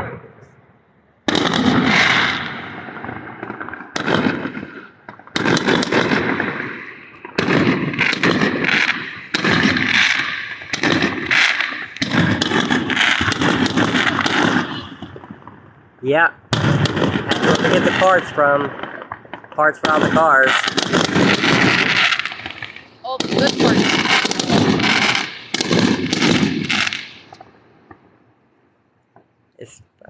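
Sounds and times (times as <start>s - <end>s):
fireworks banging and crackling: 1.3s - 28.2s.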